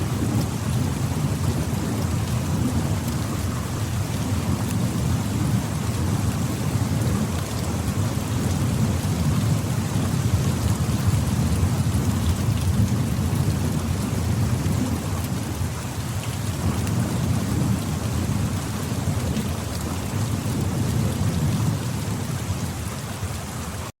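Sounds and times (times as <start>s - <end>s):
steady rainfall: 0.0s - 24.0s.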